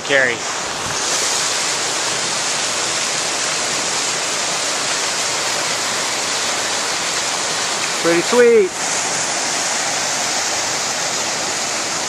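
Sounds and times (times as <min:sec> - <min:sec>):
waterfall splashing onto rocks: 0:00.0 - 0:12.0.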